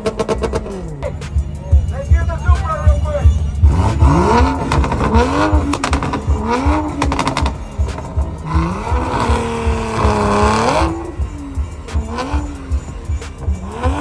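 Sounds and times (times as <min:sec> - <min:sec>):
car engine revving hard: 0:00.0 - 0:14.0
thudding bass beat: 0:00.0 - 0:14.0.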